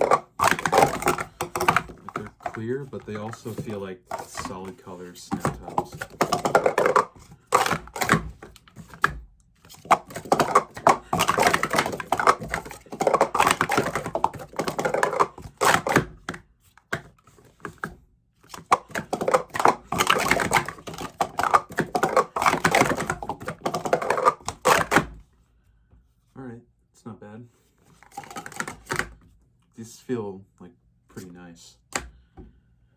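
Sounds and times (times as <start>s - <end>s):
plastic cups clattering: 0.0s - 25.2s, 28.0s - 29.2s.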